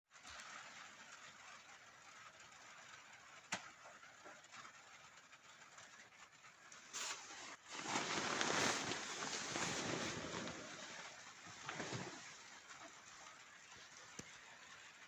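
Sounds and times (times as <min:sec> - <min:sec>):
rain on a roof: 0:00.1 - 0:15.0.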